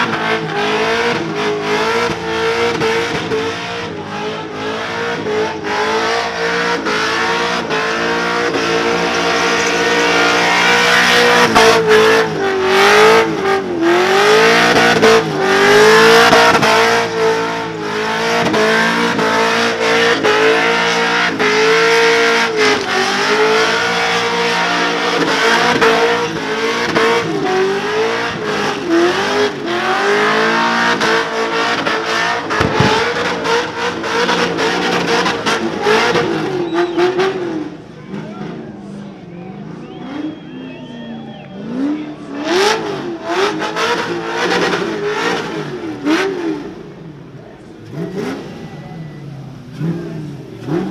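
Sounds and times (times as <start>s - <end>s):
car engine at high revs: 0.0s - 50.9s.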